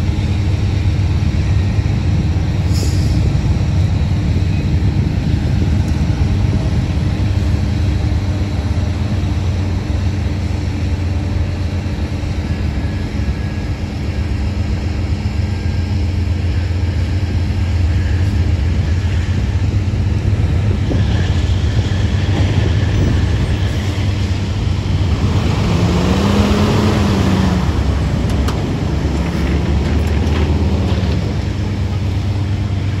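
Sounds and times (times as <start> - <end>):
cars passing on road: 0.0 - 33.0
diesel locomotive engine droning: 0.0 - 33.0.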